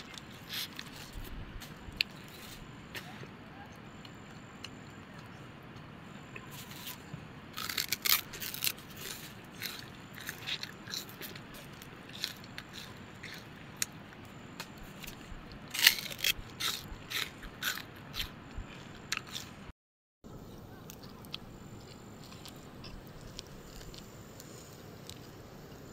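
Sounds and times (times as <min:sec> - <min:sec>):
crunchy snack being chewed: 0:00.0 - 0:03.2, 0:06.4 - 0:19.7, 0:20.8 - 0:25.3.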